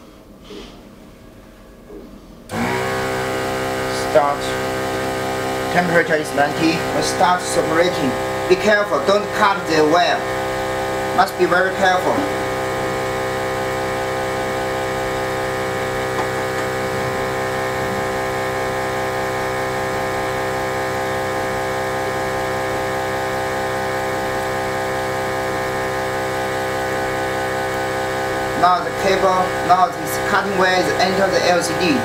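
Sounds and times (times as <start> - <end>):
pump motor whirring: 2.5 - 32.0.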